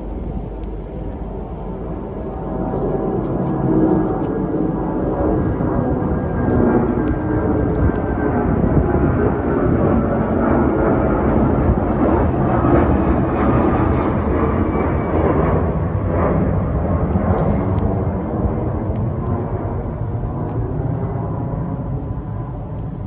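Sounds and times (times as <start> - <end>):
jet engines at takeoff power: 0.0 - 23.0.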